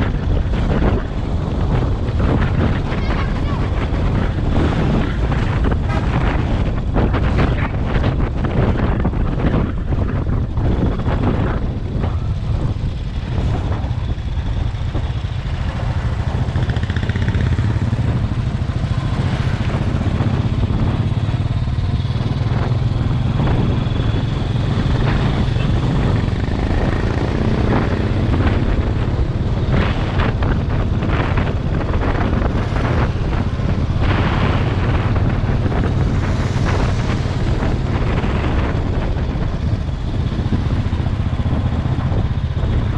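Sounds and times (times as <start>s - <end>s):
motorcycle engine running: 0.0s - 42.9s
rushing noise: 0.0s - 42.9s.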